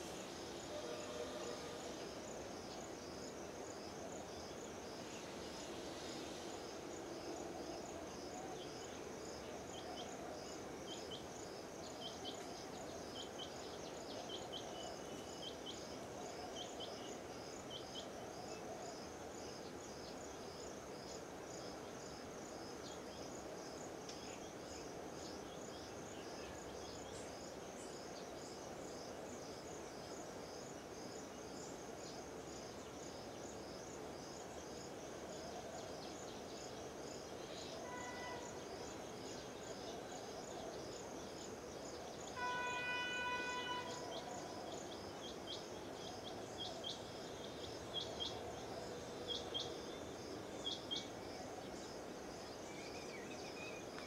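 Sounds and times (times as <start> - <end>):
low outdoor background hum: 0.0 - 54.0.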